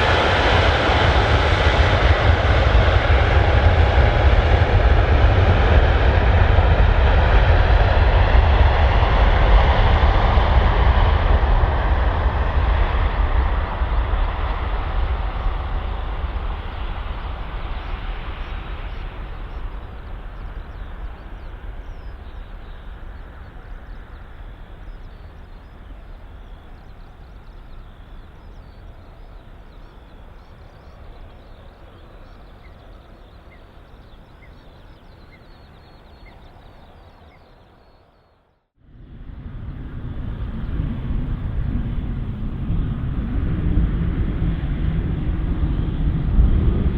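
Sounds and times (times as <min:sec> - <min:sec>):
loud low rumble: 0:00.0 - 0:37.0, 0:38.8 - 0:46.9
jet engines rumbling at takeoff: 0:00.0 - 0:46.9.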